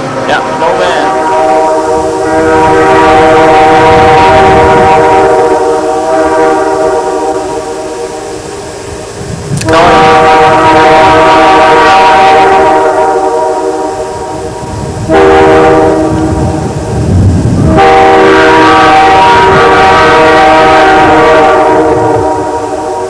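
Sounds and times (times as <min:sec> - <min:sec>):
low rumble of locomotives: 0:00.0 - 0:23.0
locomotive air horn: 0:00.2 - 0:08.4, 0:09.6 - 0:16.7, 0:17.5 - 0:23.0.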